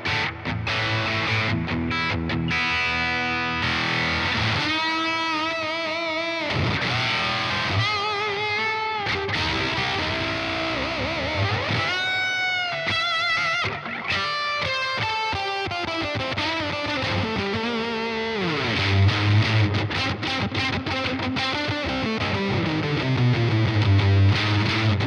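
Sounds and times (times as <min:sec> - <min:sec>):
electric guitar through octave-synth pedal: 0:00.0 - 0:25.0.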